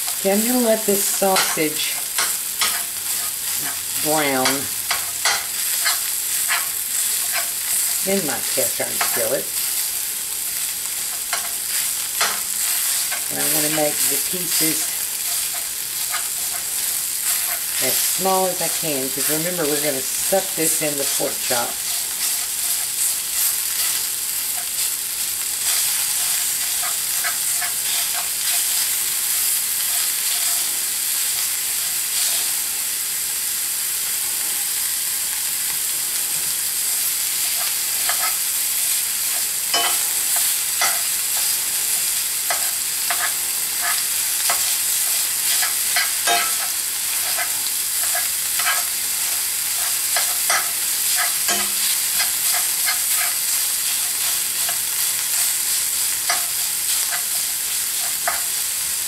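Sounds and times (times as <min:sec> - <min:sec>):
metal spoon scraping a pan: 0:00.0 - 0:09.8, 0:10.4 - 0:24.9, 0:25.6 - 0:32.6, 0:37.0 - 0:58.6
sausage sizzling in a skillet: 0:00.0 - 0:59.0.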